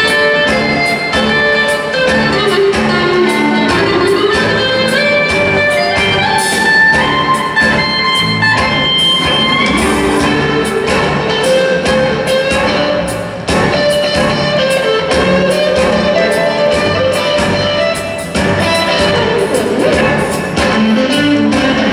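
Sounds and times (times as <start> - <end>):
bass: 0.0 - 21.9
drum beat: 0.0 - 21.9
electric guitar solo: 0.0 - 21.9
rhythm guitar: 0.0 - 21.9.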